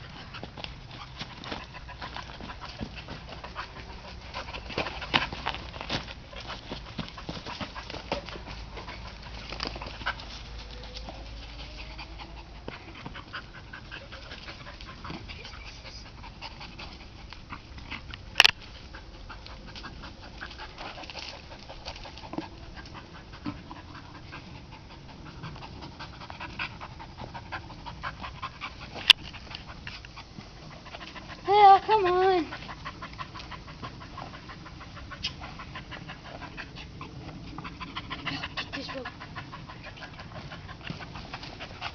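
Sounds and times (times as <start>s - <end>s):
dog panting: 0.0s - 41.9s.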